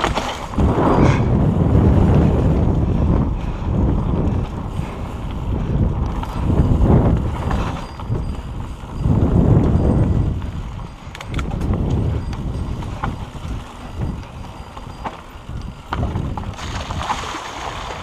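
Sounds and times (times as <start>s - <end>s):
bike tyre and frame noise: 0.0s - 18.0s
wind buffeting microphone: 0.0s - 18.0s.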